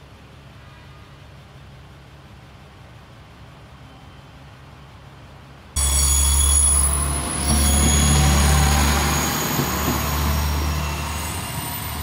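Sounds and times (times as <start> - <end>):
diesel railcar engine drone: 0.0 - 12.0.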